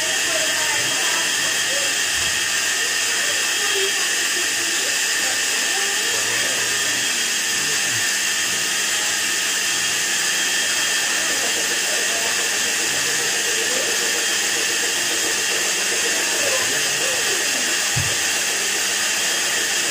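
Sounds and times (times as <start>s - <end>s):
washing machine whining: 0.0s - 19.9s.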